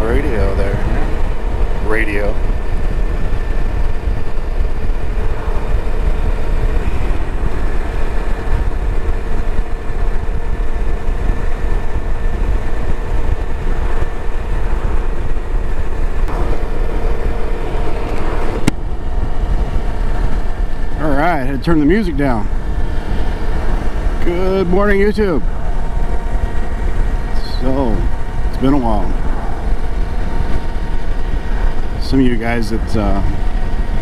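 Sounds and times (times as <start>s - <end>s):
motorcycle engine: 0.0s - 34.0s
wind rush: 0.0s - 34.0s.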